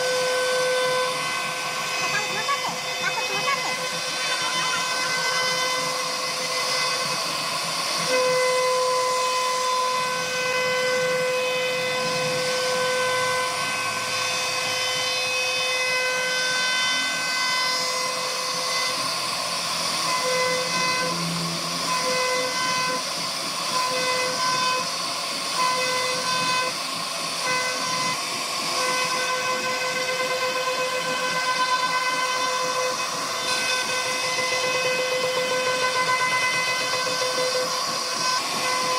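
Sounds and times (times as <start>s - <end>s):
bit cutting wood hiss: 0.0s - 38.9s
router spindle whining: 0.0s - 38.9s.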